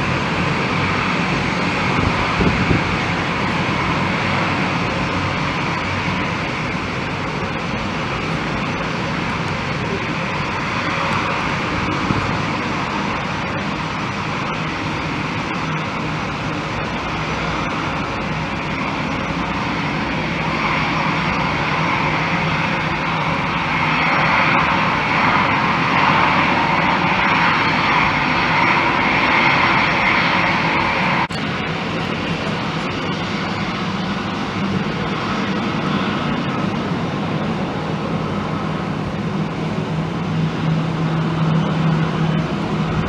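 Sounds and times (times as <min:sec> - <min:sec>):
aircraft engines running: 0:00.0 - 0:43.0.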